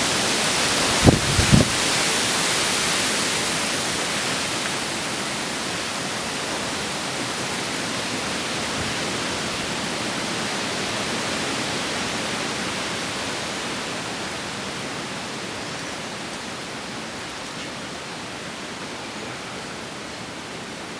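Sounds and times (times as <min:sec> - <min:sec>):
wind rustling tree leaves: 0:00.0 - 0:20.9.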